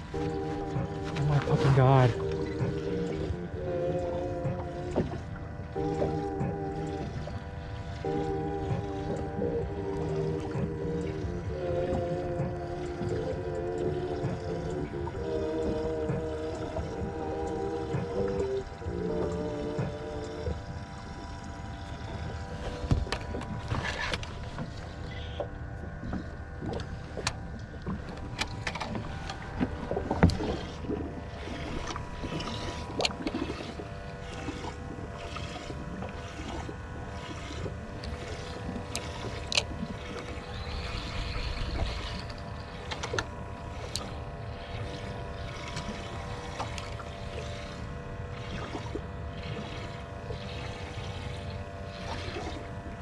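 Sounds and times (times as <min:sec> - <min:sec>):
boat motor hum: 0:00.0 - 0:53.0
water noise: 0:00.0 - 0:53.0.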